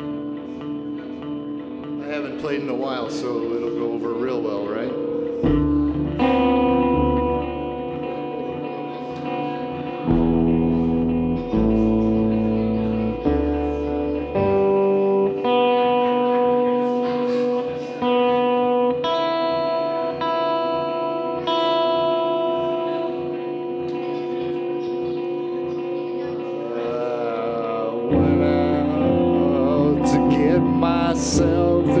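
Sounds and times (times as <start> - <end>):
electric guitar with effects: 0.0 - 32.0.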